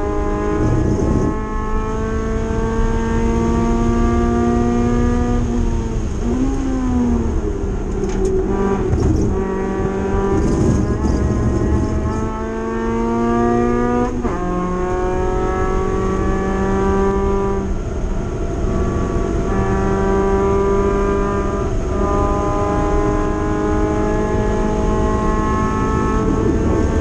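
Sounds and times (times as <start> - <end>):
race car engine accelerating: 0.0 - 27.0.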